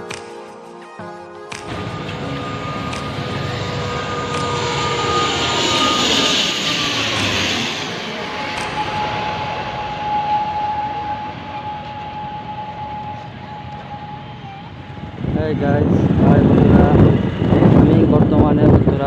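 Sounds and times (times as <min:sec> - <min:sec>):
jet airliner passing overhead: 0:01.5 - 0:19.0.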